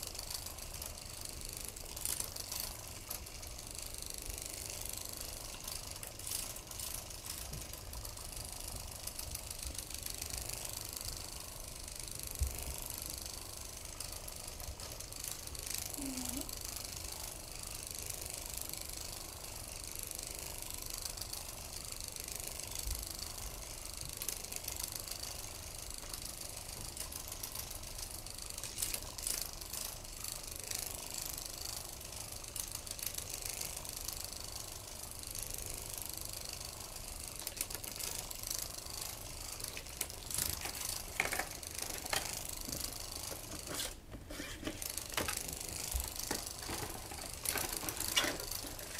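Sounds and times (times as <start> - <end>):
toy motor whirring: 0.0 - 48.9.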